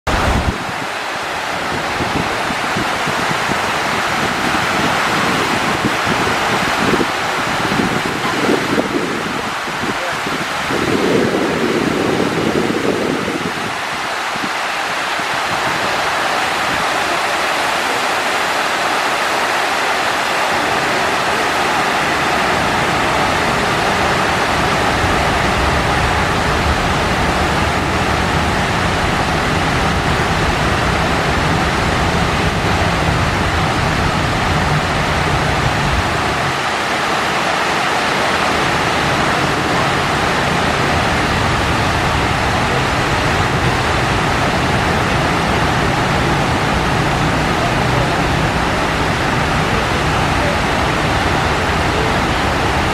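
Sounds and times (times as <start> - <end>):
rush of falling water: 0.0 - 52.9.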